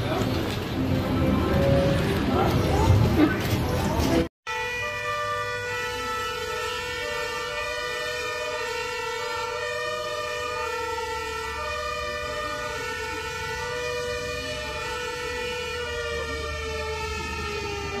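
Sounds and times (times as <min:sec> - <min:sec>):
fire engine sirens: 0:00.0 - 0:18.0.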